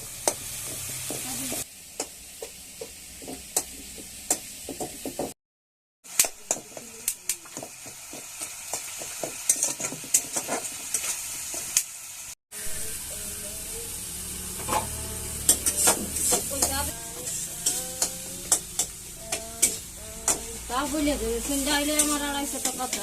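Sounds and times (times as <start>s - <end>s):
food sizzling in hot oil: 0.0s - 5.4s, 6.0s - 23.0s.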